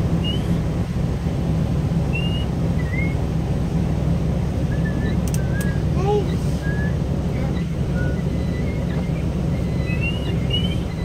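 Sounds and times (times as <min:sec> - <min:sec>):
engine and churning water rush: 0:00.0 - 0:11.0.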